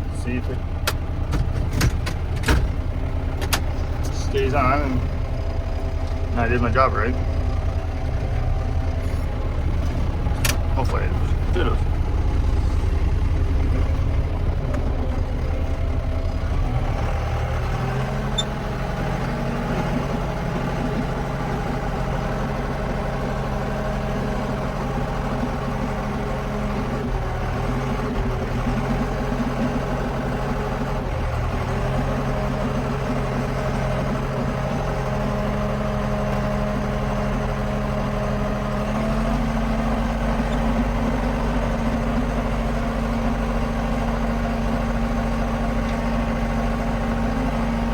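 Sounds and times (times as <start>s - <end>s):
tractor diesel engine idling: 0.0s - 47.9s.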